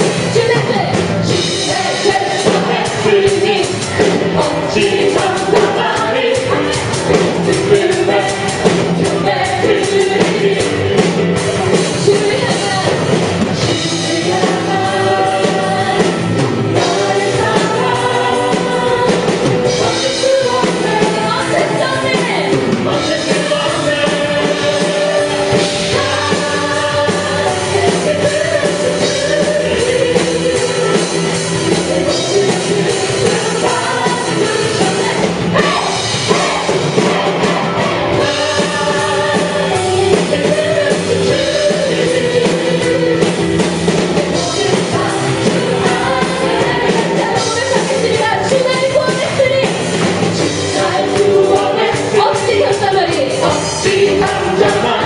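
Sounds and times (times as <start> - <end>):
drums: 0.0 - 55.0
people singing: 0.0 - 55.0
praise band playing: 0.0 - 55.0.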